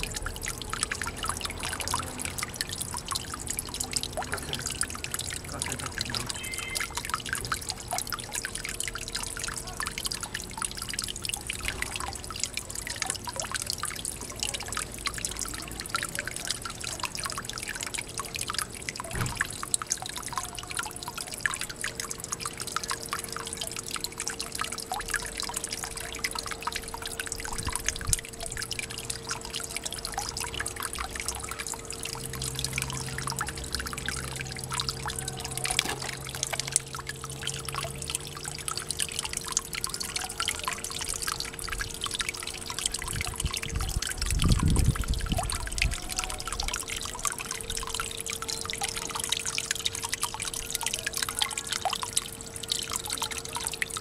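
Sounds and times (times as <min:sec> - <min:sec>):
water trickling into a pond: 0:00.0 - 0:54.0.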